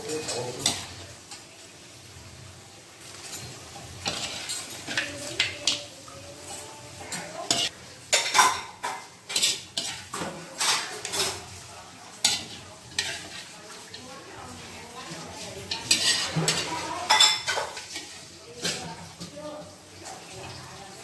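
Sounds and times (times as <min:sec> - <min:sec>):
ladle scraping metal wok: 0:00.0 - 0:01.5, 0:03.0 - 0:19.3.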